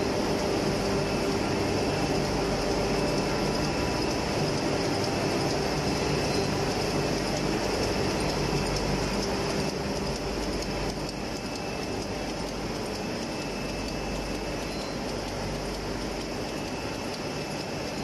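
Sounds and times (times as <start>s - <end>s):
machine clattering over hum: 0.0s - 18.0s.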